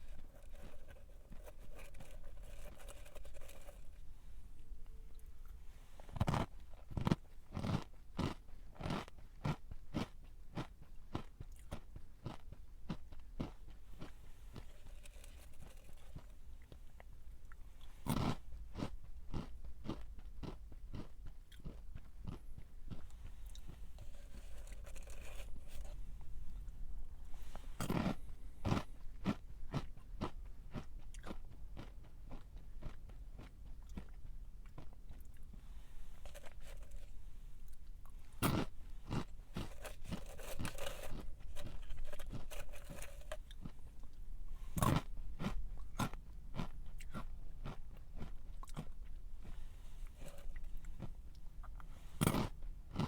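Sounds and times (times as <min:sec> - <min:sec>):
crunchy snack being chewed: 0:00.0 - 0:04.1, 0:05.4 - 0:26.7, 0:27.4 - 0:53.0.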